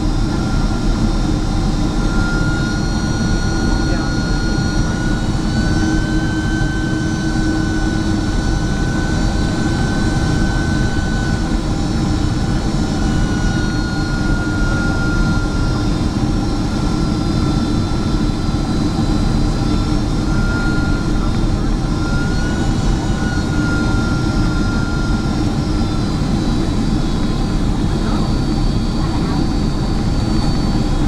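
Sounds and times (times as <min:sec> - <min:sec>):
jet engines heard from cabin: 0:00.0 - 0:31.0.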